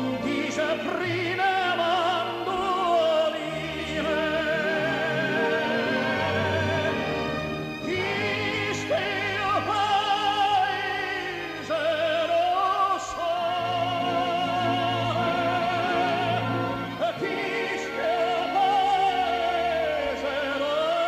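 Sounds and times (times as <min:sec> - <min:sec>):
musical accompaniment: 0:00.0 - 0:21.0
operatic singing: 0:00.0 - 0:21.0.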